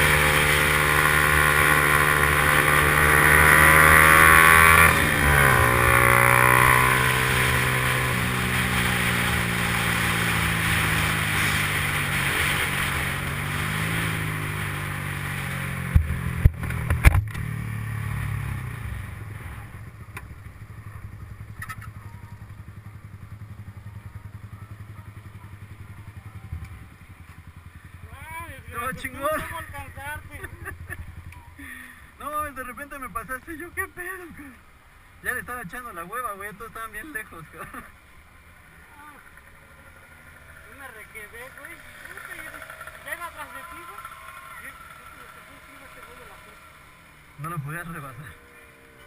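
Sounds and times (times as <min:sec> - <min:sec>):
motorcycle engine revving: 0:00.0 - 0:32.1, 0:38.6 - 0:49.0.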